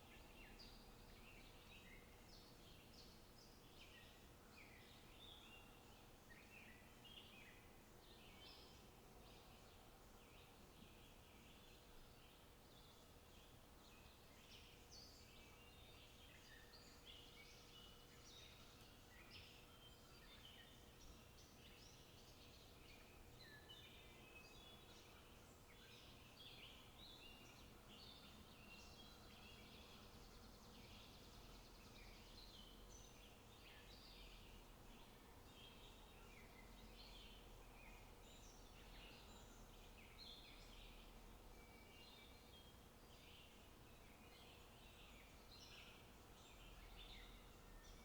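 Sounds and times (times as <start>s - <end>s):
low background noise: 0.0s - 48.0s
small birds twittering: 8.2s - 48.0s.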